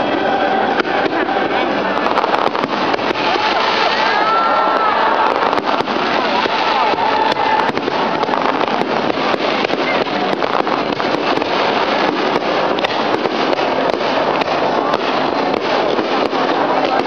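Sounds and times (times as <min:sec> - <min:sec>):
fireworks crackling pops: 0:00.0 - 0:17.0
steady rushing noise: 0:00.0 - 0:17.0.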